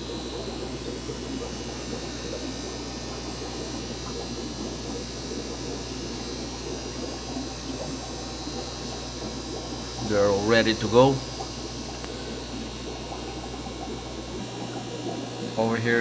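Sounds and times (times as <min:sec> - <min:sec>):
air bubbling through filters: 0:00.0 - 0:16.0
electrical hum: 0:00.0 - 0:16.0.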